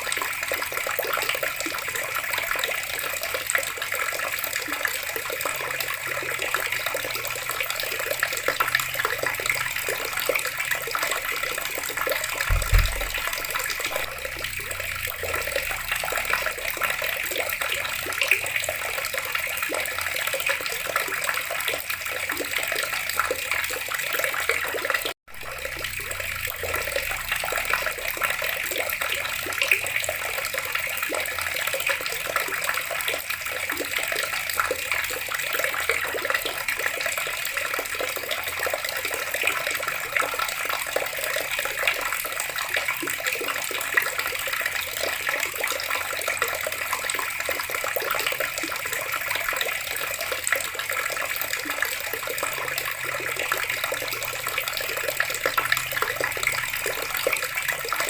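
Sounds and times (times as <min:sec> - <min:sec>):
tap water running and splashing: 0:00.0 - 0:58.0.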